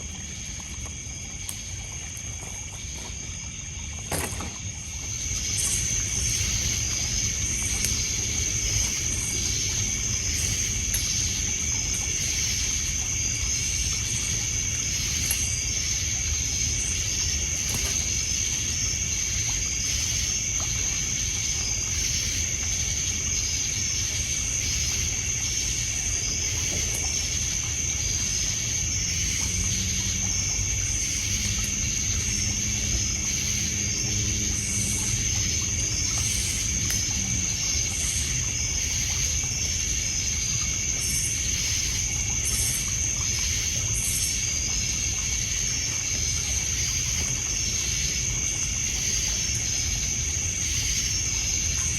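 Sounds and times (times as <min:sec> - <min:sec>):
campfire crackles: 0:00.0 - 0:51.9
crickets trilling: 0:00.0 - 0:51.9
insect chirps: 0:00.0 - 0:51.9
water lapping: 0:00.0 - 0:51.9.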